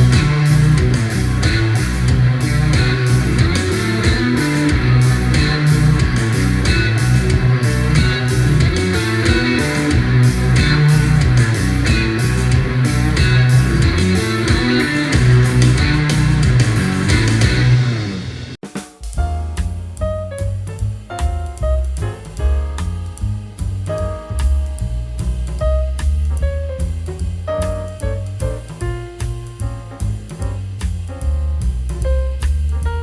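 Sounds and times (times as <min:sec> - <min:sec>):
instrumental rock music: 0:00.0 - 0:32.8.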